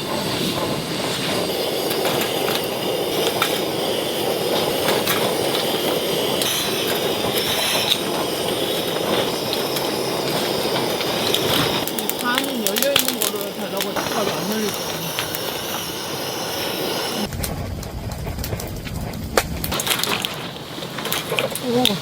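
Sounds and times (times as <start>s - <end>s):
strong wind against tent: 0.0s - 22.0s.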